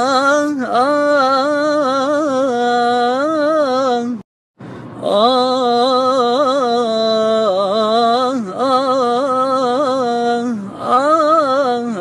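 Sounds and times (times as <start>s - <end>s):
man singing unaccompanied: 0.0s - 4.3s, 5.0s - 12.0s.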